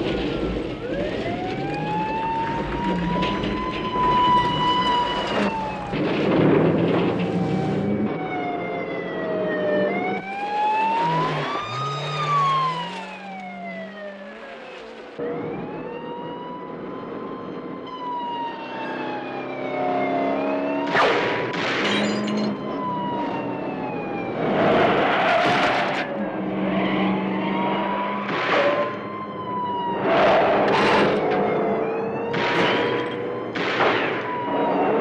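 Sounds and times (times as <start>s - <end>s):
police siren wailing: 0.0s - 35.0s
truck engine running and revving: 0.0s - 35.0s.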